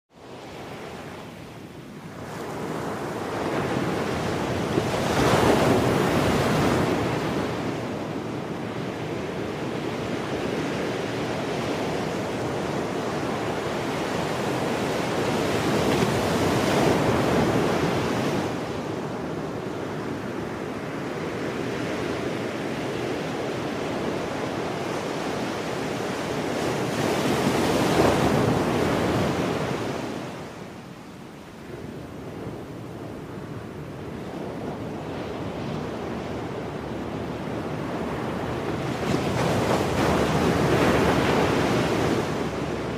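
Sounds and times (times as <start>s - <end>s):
ocean waves breaking: 0.2s - 30.7s, 32.1s - 42.9s.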